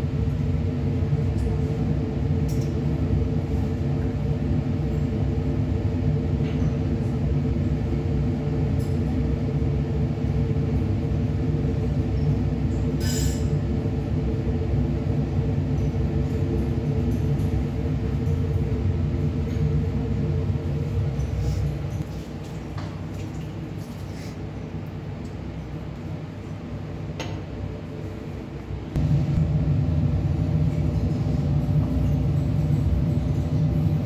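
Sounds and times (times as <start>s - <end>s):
extraction fan humming: 0.0s - 34.0s.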